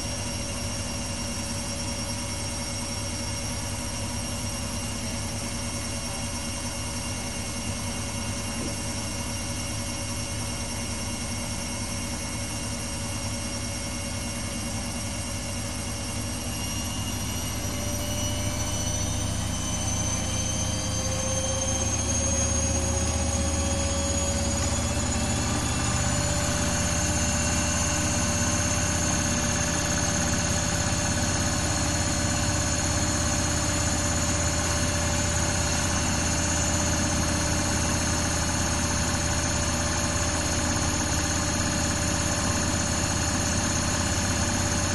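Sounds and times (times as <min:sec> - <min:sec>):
washing machine whining and humming: 0:00.0 - 0:44.9.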